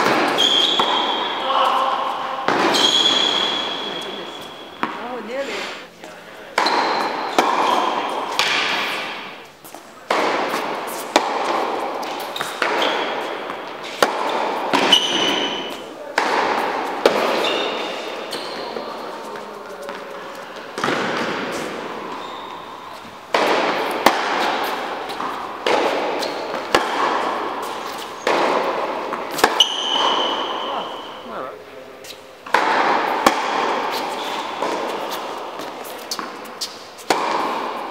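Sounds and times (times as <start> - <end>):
tennis ball hit by rackets: 0.0 - 5.1, 6.5 - 31.2, 32.4 - 37.9
shoes squeaking on court: 0.0 - 31.3, 32.0 - 32.5, 33.2 - 37.9.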